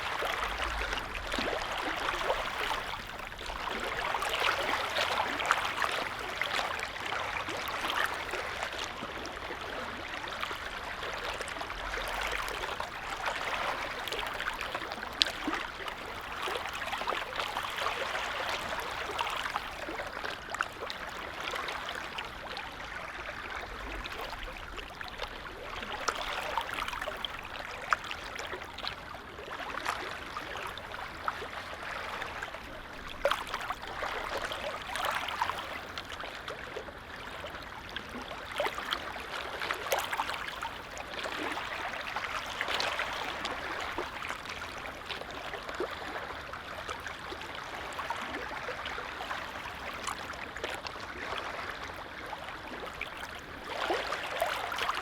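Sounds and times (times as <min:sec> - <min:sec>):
lake waves lapping: 0:00.0 - 0:55.0.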